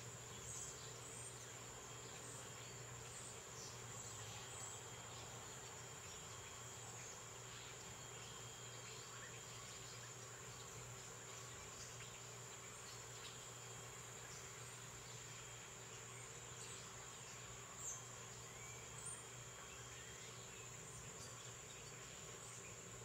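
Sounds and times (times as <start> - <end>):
high-pitched insect chorus: 0.0 - 23.0
small birds chirping: 0.0 - 23.0.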